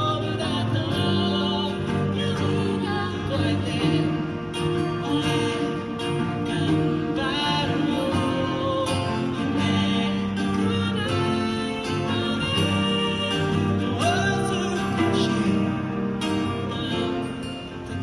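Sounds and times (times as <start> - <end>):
live band with guitar: 0.0 - 18.0.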